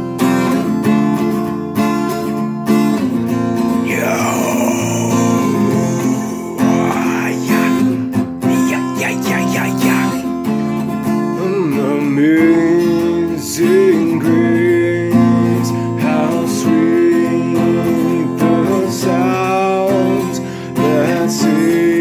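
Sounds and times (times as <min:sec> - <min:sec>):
strummed acoustic guitar: 0:00.0 - 0:22.0
man singing: 0:03.8 - 0:22.0.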